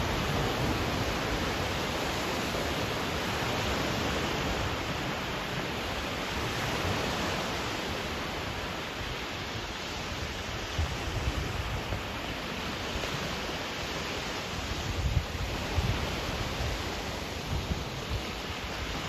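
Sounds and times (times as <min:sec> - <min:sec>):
waves washing: 0:00.0 - 0:19.0.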